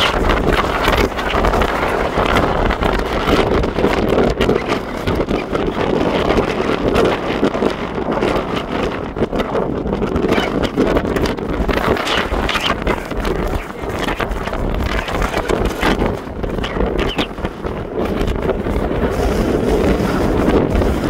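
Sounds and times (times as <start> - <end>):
ship low rumble: 0.0 - 21.0
wind buffeting microphone: 0.0 - 21.0.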